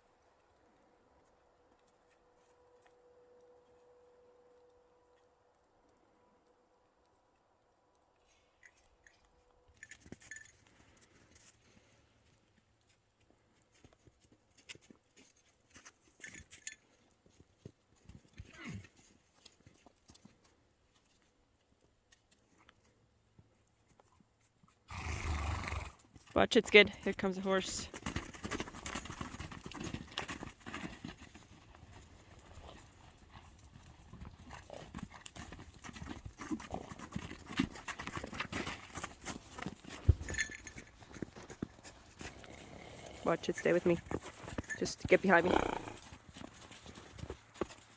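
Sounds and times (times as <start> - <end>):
hooves thudding and clicking: 0.0 - 47.9
horse hoofbeats: 8.6 - 47.9.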